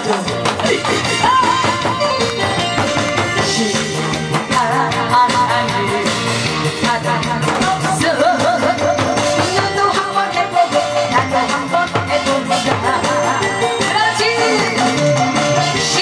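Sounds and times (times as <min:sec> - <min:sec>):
barrel drum beats: 0:00.0 - 0:16.0
loud accompanying music: 0:00.0 - 0:16.0
woman singing through microphone: 0:03.1 - 0:16.0.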